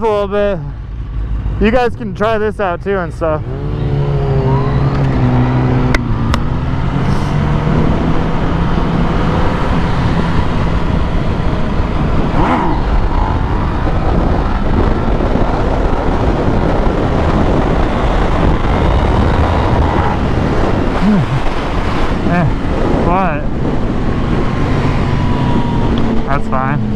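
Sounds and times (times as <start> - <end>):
motorcycle engine: 0.0 - 26.9
wind noise on microphone: 3.5 - 26.9.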